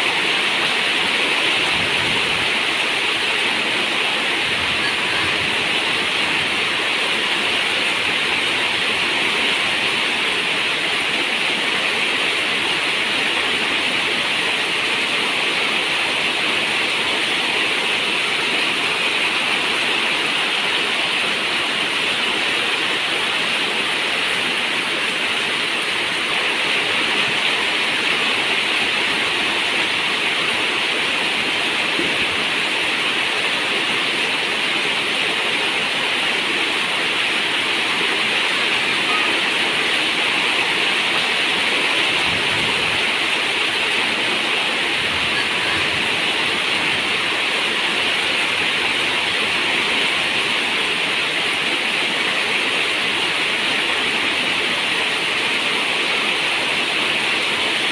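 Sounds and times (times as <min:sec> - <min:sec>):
rain on a metal roof: 0:00.0 - 0:57.9.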